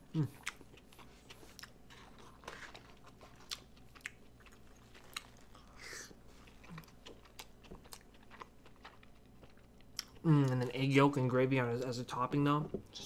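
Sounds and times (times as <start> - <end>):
wet chewing: 0.2 - 10.8.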